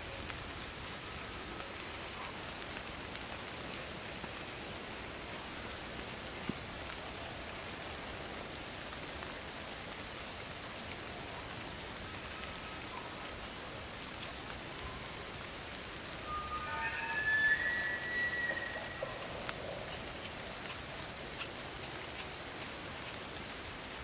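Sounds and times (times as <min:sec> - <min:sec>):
rain falling on foliage: 0:00.0 - 0:24.0.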